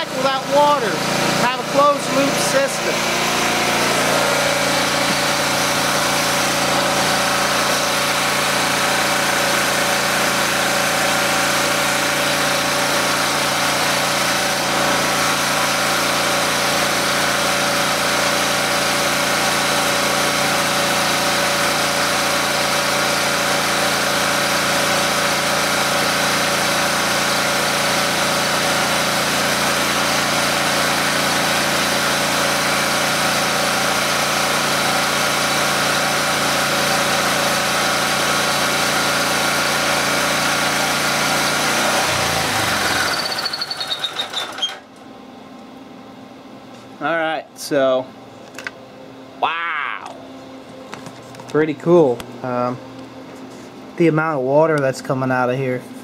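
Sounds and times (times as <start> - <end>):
portable generator engine running: 0.0 - 45.3.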